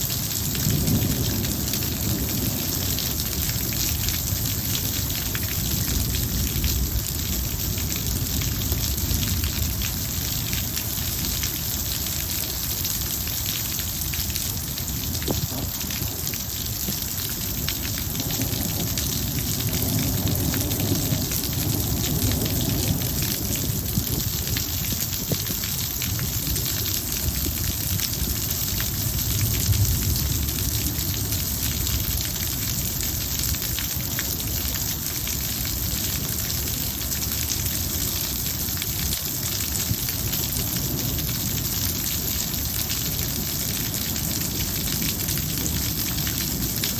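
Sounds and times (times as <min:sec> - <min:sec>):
heavy rain on hard surfaces: 0:00.0 - 0:46.9.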